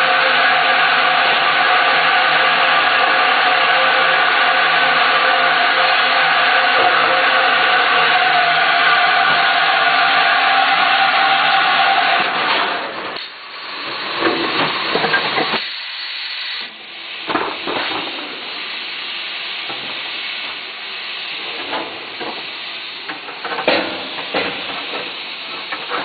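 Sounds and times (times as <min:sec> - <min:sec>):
water jets hissing and spraying: 0:00.0 - 0:12.5, 0:13.2 - 0:26.0.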